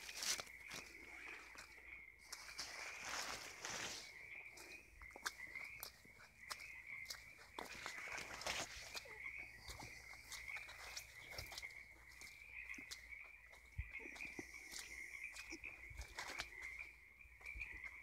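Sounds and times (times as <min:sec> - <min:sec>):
chorus of frogs trilling: 0:00.0 - 0:18.0
footsteps through brush: 0:00.0 - 0:18.0.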